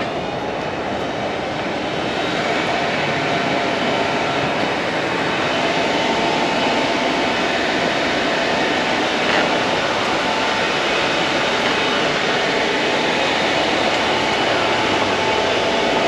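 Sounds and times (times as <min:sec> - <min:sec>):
rushing noise: 0:00.0 - 0:16.0.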